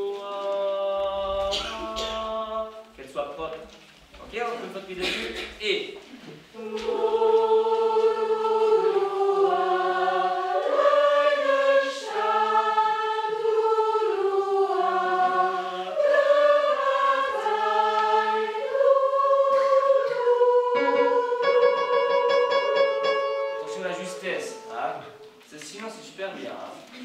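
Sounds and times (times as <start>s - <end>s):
choir singing unaccompanied: 0.0s - 2.9s, 6.5s - 25.4s.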